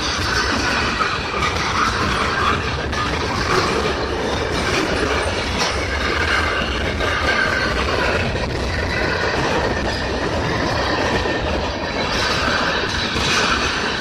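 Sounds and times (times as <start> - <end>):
steel wheels on rails: 0.0 - 14.0.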